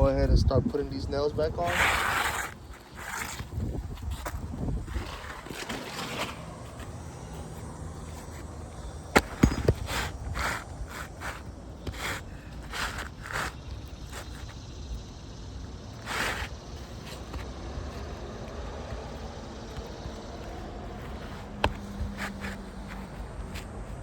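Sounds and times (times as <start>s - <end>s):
scraping and rustling on shingles: 0.7s - 24.0s.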